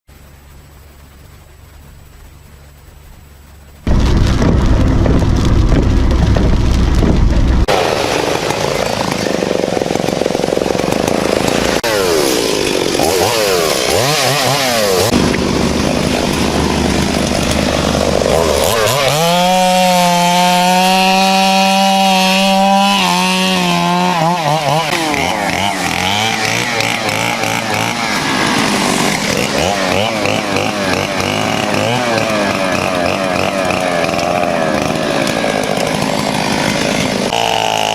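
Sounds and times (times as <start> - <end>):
chainsaw cutting wood: 3.9 - 37.9.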